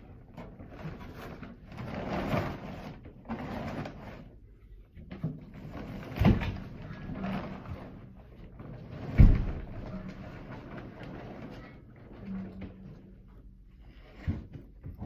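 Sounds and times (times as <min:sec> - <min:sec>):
water heater scraping up stairs: 0:00.0 - 0:04.4, 0:05.0 - 0:15.0.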